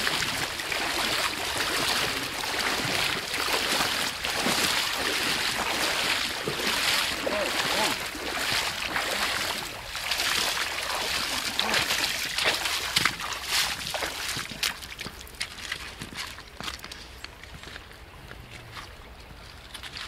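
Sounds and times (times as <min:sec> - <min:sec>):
splashing of wading in river: 0:00.0 - 0:16.7.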